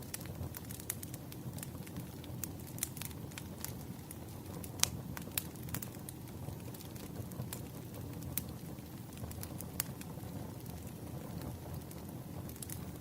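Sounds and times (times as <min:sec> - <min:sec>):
firewood crackles and pops: 0:00.0 - 0:13.0
low rumble of flames: 0:00.0 - 0:13.0.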